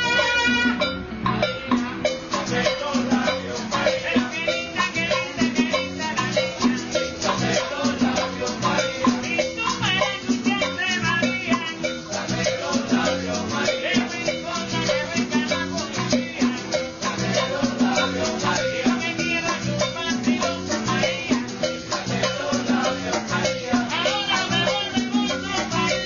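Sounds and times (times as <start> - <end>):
maracas: 0.0 - 26.0
person singing: 0.0 - 26.0
salsa music: 0.0 - 26.0.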